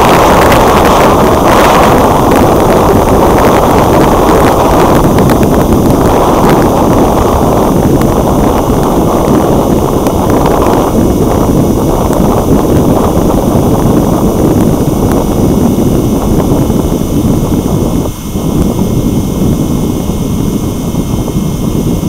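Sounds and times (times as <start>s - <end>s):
wind rush over microphone: 0.0s - 22.0s.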